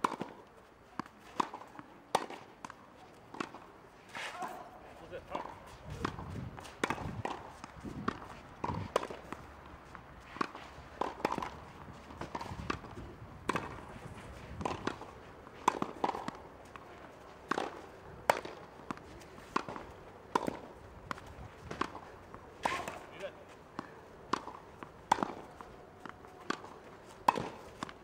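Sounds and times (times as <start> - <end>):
racket striking tennis ball: 0.0 - 0.4, 1.0 - 28.0
ball bouncing on clay court: 5.3 - 28.0.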